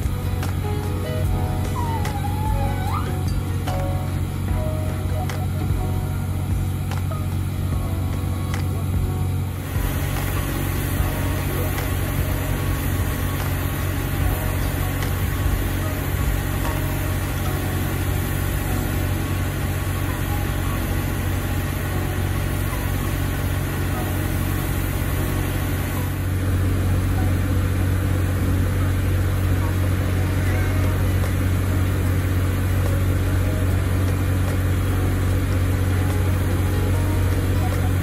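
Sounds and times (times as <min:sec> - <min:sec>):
crane diesel engine idling: 0:00.0 - 0:38.0.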